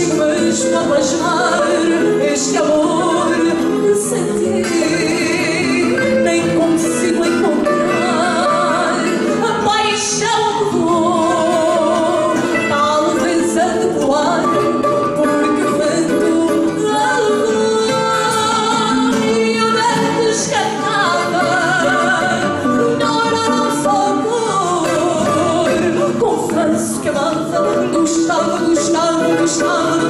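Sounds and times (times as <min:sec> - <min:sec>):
instrumental accompaniment: 0:00.0 - 0:30.0
woman singing with vibrato: 0:00.0 - 0:30.0.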